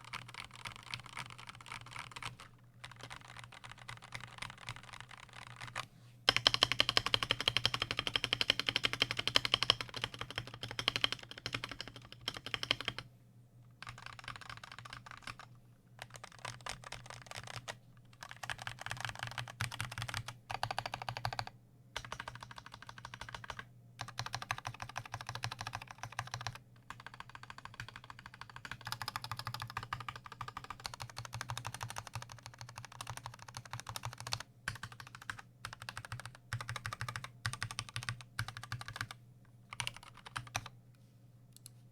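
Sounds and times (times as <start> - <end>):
mechanical keyboard typing: 0.0 - 13.0, 13.8 - 40.7.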